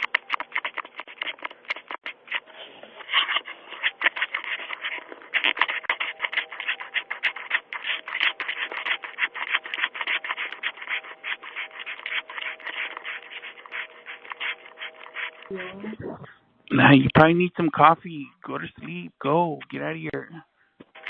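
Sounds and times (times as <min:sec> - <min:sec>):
scratching against doorbell microphone: 0:00.0 - 0:16.0, 0:16.7 - 0:20.2.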